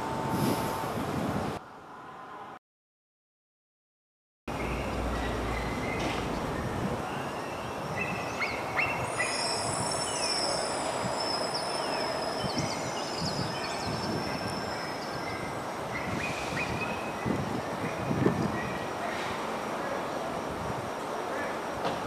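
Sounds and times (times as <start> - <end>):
outdoor background noise: 0.0 - 2.6, 4.5 - 22.0.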